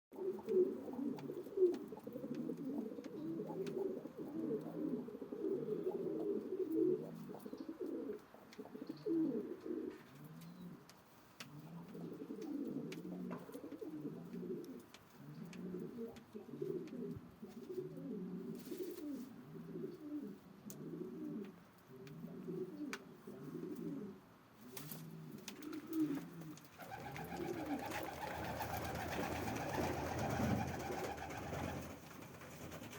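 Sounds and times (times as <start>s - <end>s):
pigeon cooing: 0.2s - 10.8s, 11.5s - 31.9s.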